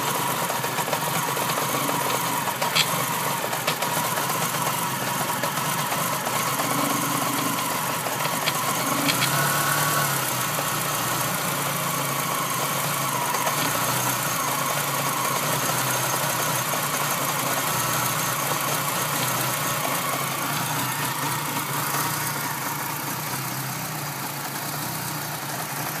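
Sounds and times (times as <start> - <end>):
car engine idling: 0.0 - 26.0
strange engine noise: 0.0 - 26.0.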